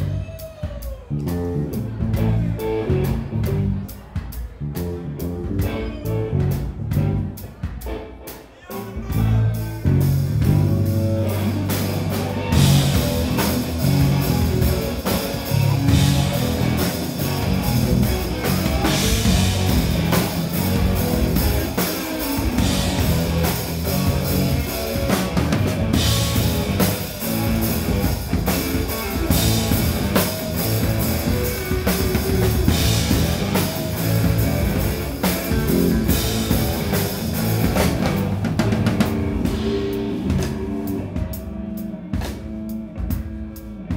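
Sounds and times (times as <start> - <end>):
live rock band playing: 0.0 - 43.9
electric guitar: 4.8 - 43.9.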